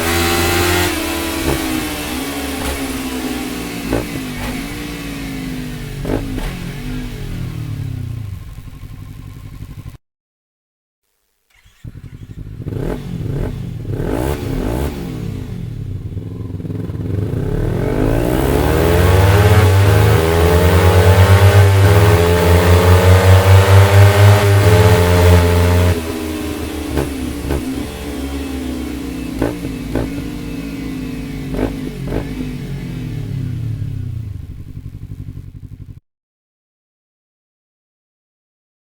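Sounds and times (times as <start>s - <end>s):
motorcycle engine idling and revving: 0.0s - 10.0s, 11.5s - 36.0s.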